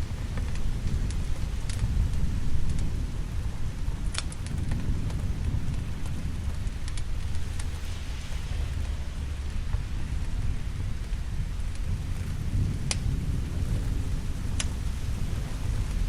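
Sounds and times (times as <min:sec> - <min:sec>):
low thunder rumble: 0:00.0 - 0:16.0
steady rain: 0:00.0 - 0:16.0.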